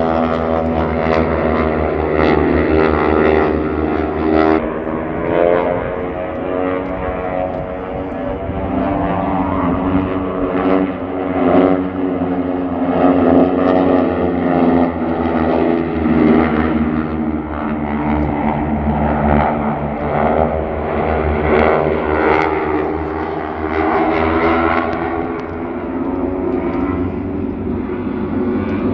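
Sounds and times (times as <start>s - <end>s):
propeller airplane droning: 0.0s - 28.9s.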